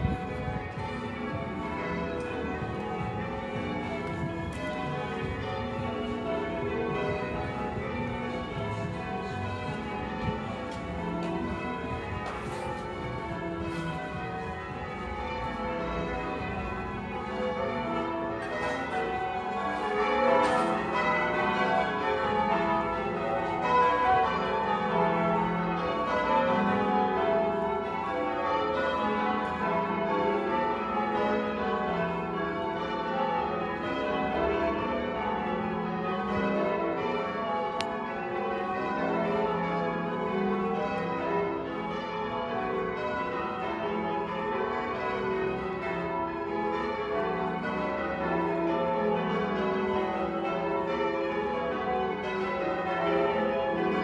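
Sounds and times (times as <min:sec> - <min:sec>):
church bells ringing in changes: 0:00.0 - 0:54.0.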